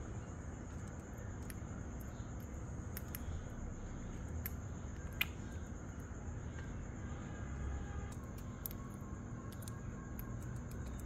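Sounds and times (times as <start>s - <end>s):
faint high whine: 0.0s - 11.0s
steady low hum: 0.0s - 11.0s.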